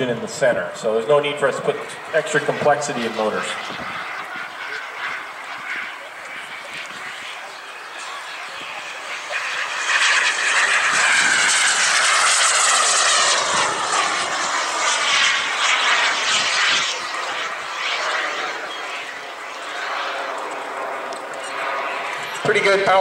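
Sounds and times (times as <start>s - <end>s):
model jet engine passing: 0.0s - 23.0s.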